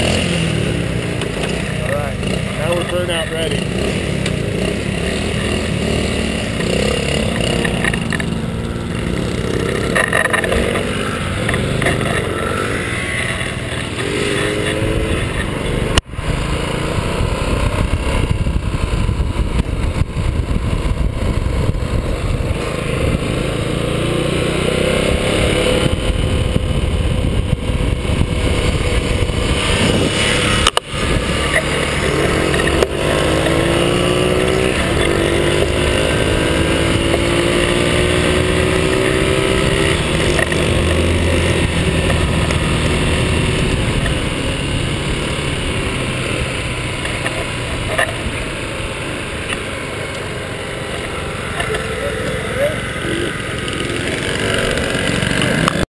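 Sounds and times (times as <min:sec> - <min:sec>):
motor scooters accelerating: 0:00.0 - 0:55.9.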